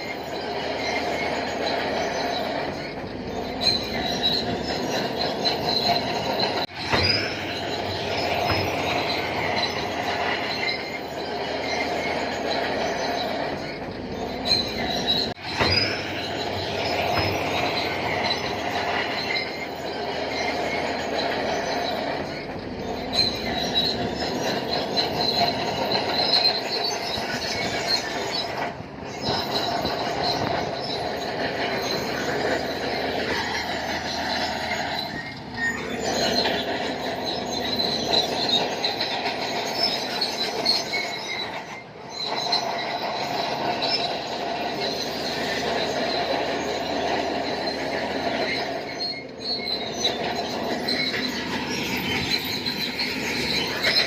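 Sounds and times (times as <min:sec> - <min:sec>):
bulldozer engine running: 0:00.0 - 0:54.0
steel tracks squealing and clanking: 0:00.0 - 0:54.0.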